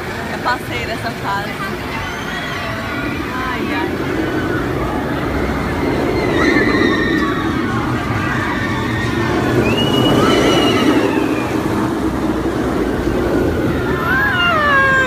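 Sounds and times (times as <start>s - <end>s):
roller coaster rumbling: 0.0s - 15.0s
riders screaming: 1.7s - 15.0s.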